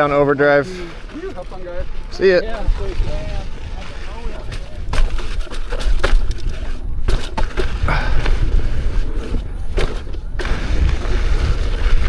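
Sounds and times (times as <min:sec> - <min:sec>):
wind rumble on microphone: 0:00.0 - 0:12.0
wheel knocking on rocks: 0:01.1 - 0:12.0.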